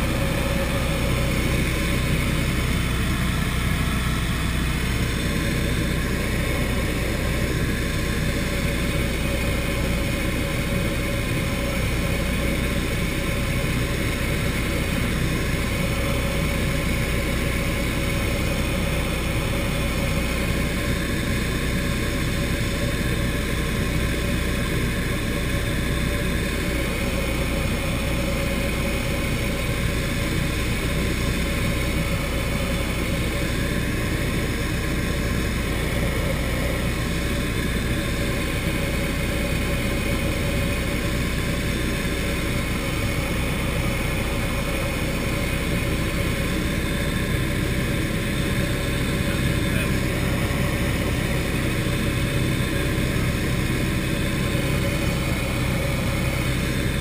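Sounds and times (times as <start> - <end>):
propeller aircraft engine droning: 0.0 - 57.0.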